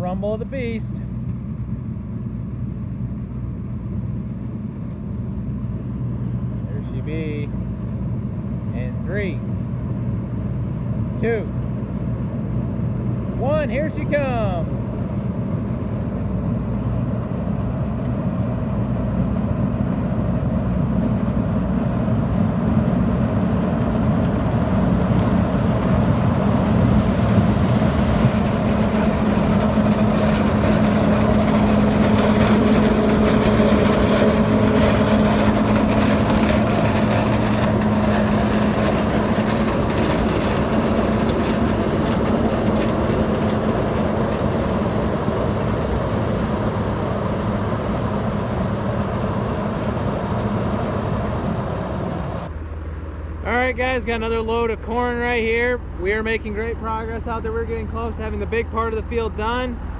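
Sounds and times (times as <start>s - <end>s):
combine harvester engine and threshing: 0.0s - 59.9s.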